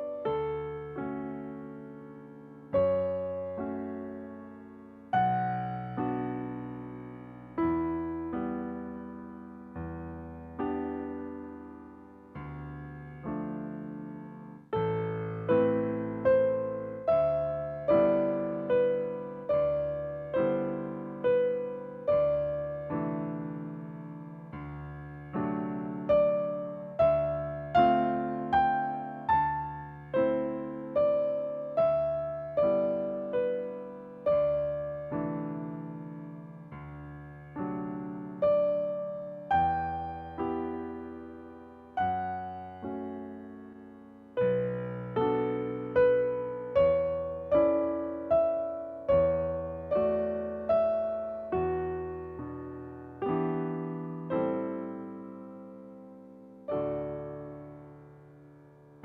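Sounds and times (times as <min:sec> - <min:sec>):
slow piano music: 0:00.0 - 0:59.0.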